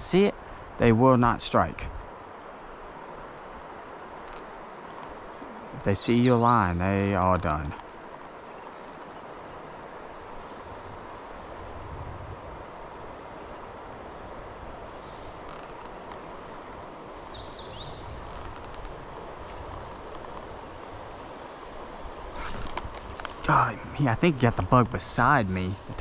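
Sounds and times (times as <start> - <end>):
river water flowing: 0.1 - 26.0
small birds chirping: 3.8 - 12.0, 12.7 - 26.0.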